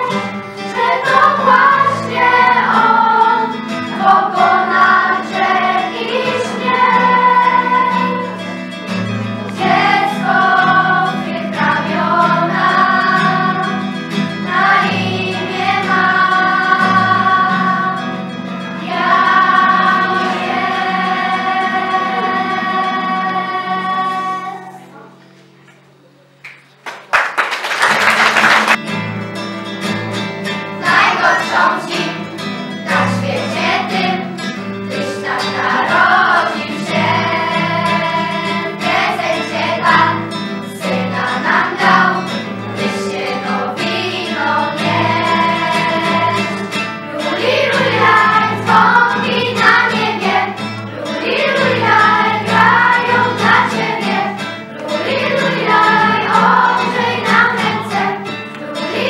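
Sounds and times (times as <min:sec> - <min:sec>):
children's choir singing: 0:00.0 - 0:25.2, 0:30.6 - 0:59.0
instrumental accompaniment: 0:00.0 - 0:26.8, 0:28.5 - 0:59.0.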